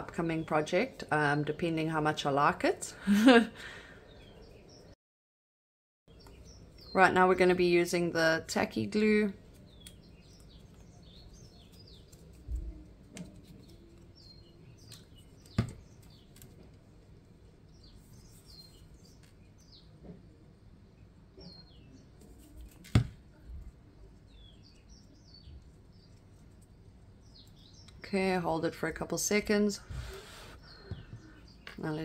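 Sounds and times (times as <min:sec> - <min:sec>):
birds chirping: 0:03.0 - 0:05.0, 0:06.1 - 0:20.3, 0:20.9 - 0:22.5, 0:23.8 - 0:32.0.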